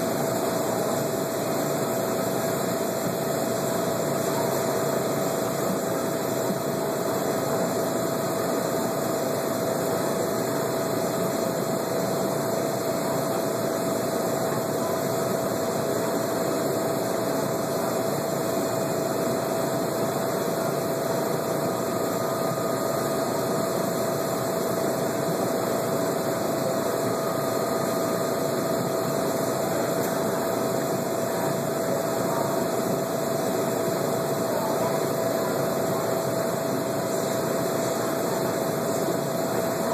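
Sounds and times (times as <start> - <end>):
mid-pitched whine: 0.0 - 39.9
tank equipment hum and hiss: 0.0 - 39.9.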